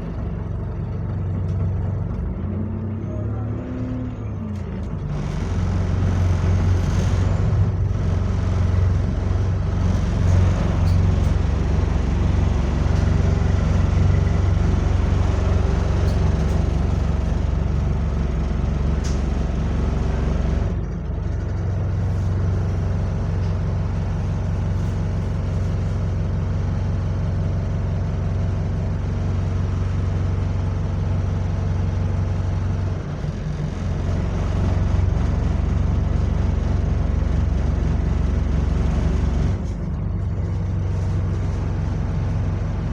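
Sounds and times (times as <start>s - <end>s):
diesel bus engine droning: 0.0s - 42.9s.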